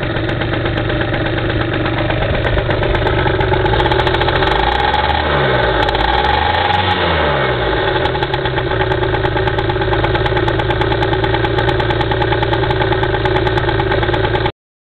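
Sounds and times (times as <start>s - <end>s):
scooter engine idling: 0.0s - 14.5s.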